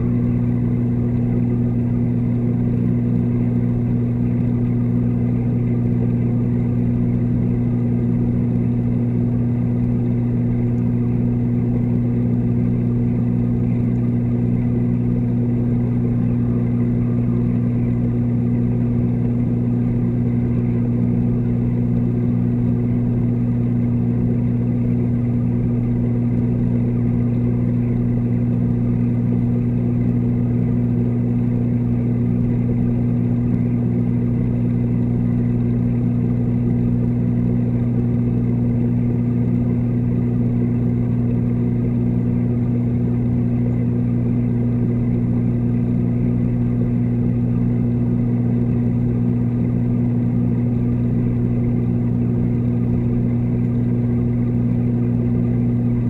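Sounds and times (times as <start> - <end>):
aquarium water pumps humming underwater: 0.0 - 56.0.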